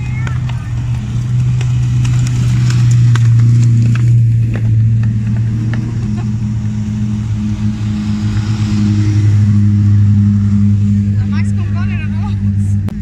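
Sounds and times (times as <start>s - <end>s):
gravel crackling under tyres: 0.0s - 13.0s
race car engines at low revs: 0.0s - 13.0s.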